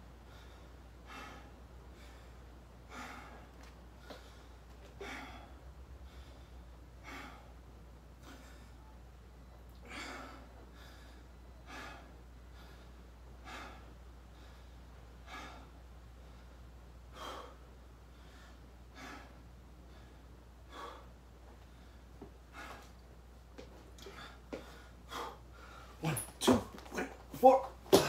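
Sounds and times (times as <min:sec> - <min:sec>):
person breathing hard: 0:00.2 - 0:07.6, 0:09.8 - 0:23.0, 0:24.0 - 0:26.2.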